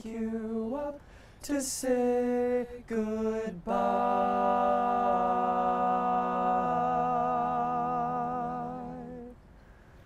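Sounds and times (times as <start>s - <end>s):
male a cappella group singing: 0.0s - 9.4s.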